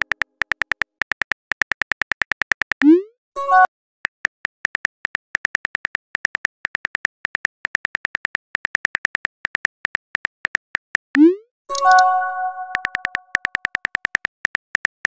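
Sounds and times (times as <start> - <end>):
phone keyboard clicks: 0.0 - 2.9, 4.2 - 12.1, 12.7 - 15.0.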